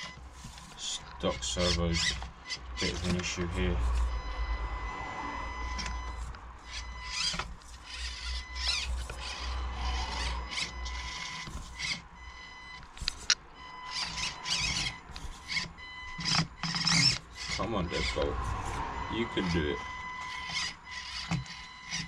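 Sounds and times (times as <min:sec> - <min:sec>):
small electric motor whirring: 0:00.0 - 0:12.4, 0:13.0 - 0:22.0.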